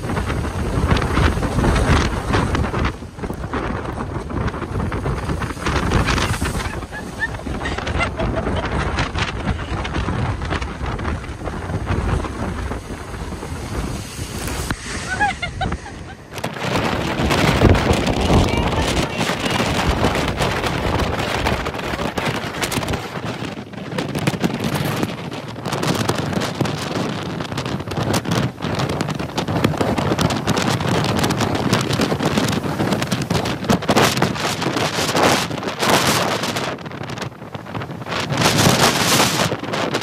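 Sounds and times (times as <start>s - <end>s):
storm surf breaking: 0.0s - 40.0s
wind buffeting microphone: 0.0s - 40.0s.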